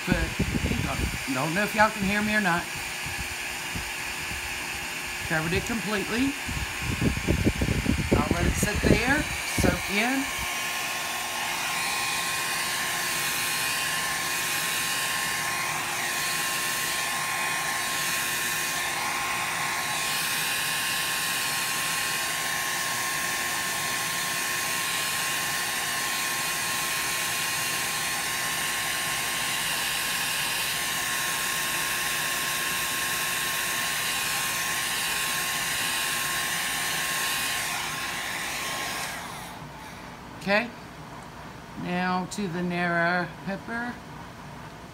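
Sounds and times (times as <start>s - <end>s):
hot-air dryer blowing: 0.0s - 40.7s, 41.8s - 44.0s.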